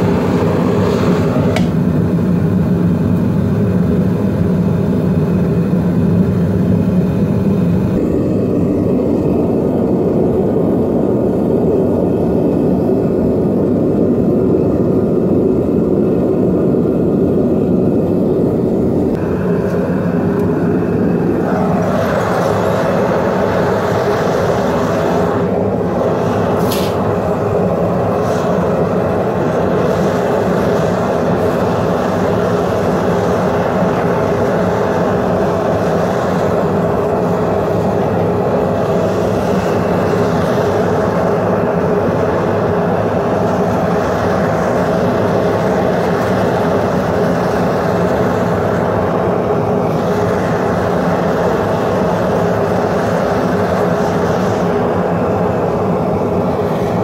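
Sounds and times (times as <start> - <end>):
propane burner roaring: 0.0 - 57.0.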